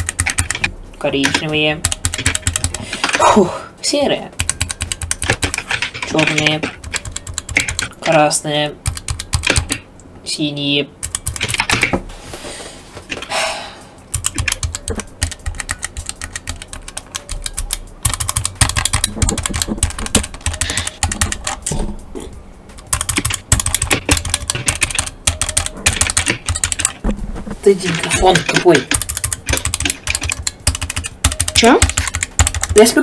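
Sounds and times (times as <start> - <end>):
mechanical keyboard typing: 0.0 - 3.3, 4.3 - 9.8, 11.0 - 12.0, 14.1 - 21.8, 22.7 - 27.0, 27.7 - 33.0.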